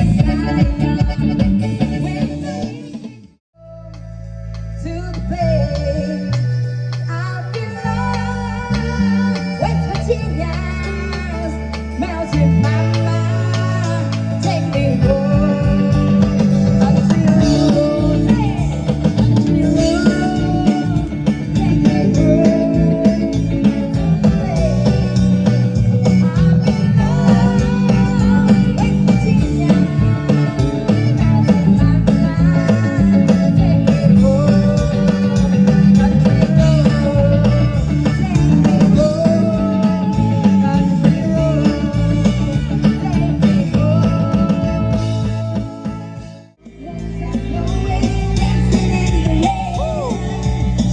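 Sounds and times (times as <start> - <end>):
rock band playing: 0.0 - 3.3, 4.0 - 50.9
person singing: 0.0 - 4.2, 4.8 - 50.9.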